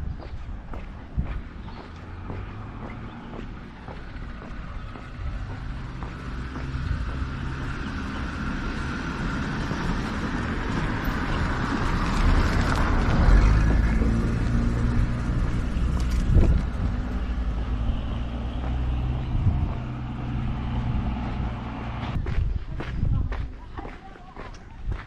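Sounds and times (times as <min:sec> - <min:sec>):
low traffic rumble: 0:00.0 - 0:25.0
car passing: 0:00.9 - 0:22.2.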